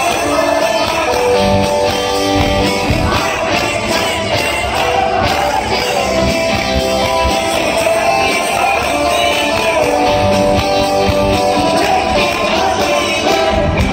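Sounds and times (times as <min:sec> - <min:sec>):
live rock band playing: 0:00.0 - 0:13.9.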